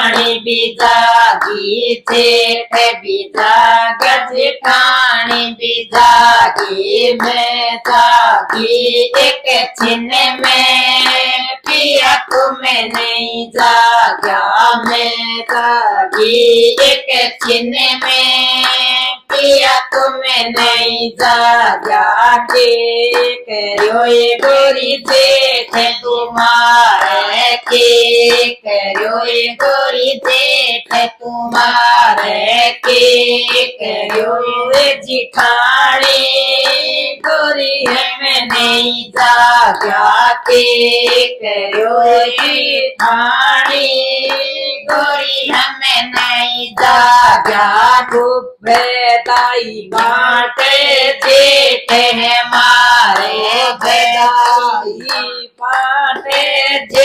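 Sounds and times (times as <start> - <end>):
hands clapping to the beat: 0.0 - 57.0
women singing a folk song: 0.0 - 57.0.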